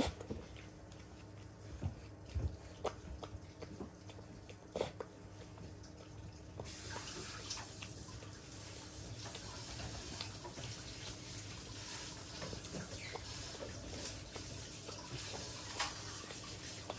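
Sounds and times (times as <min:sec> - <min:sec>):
dog chewing and licking: 0:00.0 - 0:16.9.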